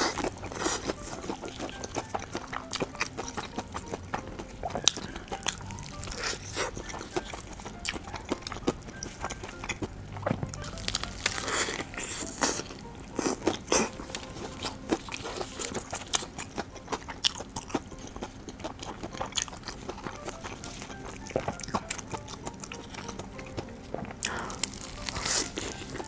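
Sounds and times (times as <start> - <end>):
crispy food crunching while chewing: 0.0 - 26.0.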